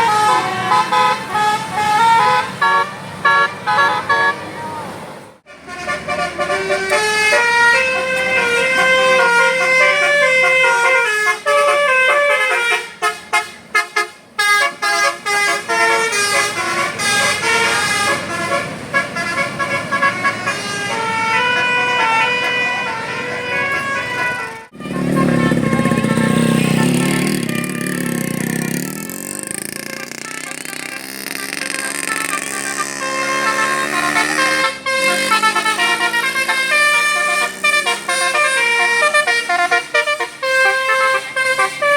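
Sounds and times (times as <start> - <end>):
bus musical horn melody: 0.0 - 4.6, 5.4 - 41.9.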